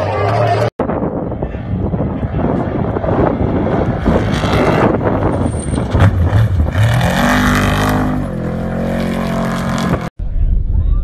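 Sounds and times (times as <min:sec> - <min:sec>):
truck engine at racing throttle: 0:00.0 - 0:10.1.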